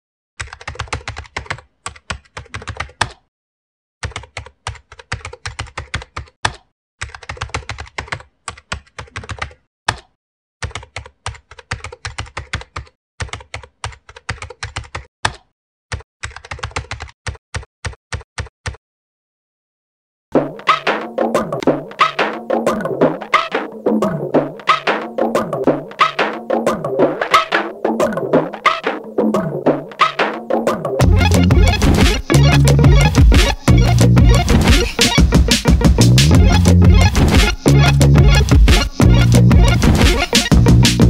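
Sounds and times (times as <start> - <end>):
keyboard typing: 0.4 - 3.2, 4.0 - 15.1, 15.9 - 18.8, 20.6 - 41.0.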